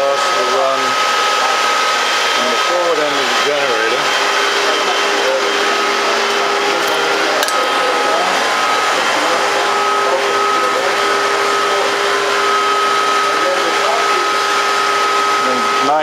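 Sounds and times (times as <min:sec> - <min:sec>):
engine room rush: 0:00.0 - 0:16.0
machinery whine: 0:00.0 - 0:16.0.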